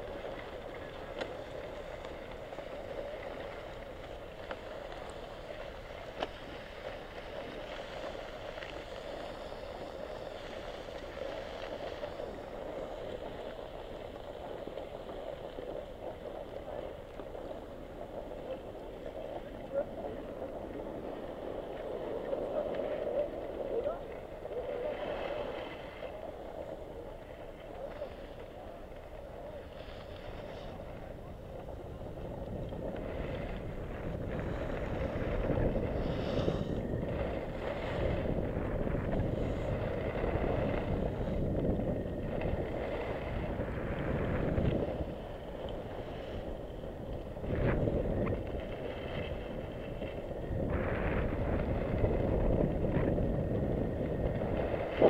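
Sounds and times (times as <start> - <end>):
skis sliding over snow: 0.0 - 55.0
wind buffeting the microphone: 0.0 - 55.0.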